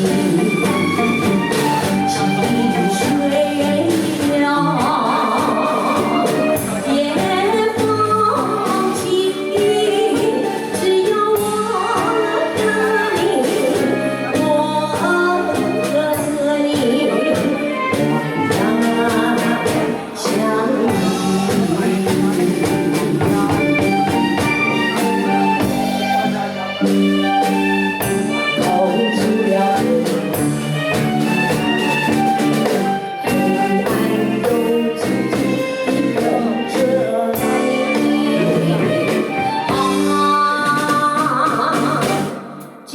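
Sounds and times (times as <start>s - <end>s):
woman singing with vibrato: 0.0s - 25.4s, 28.2s - 42.9s
music backing track: 0.0s - 42.9s.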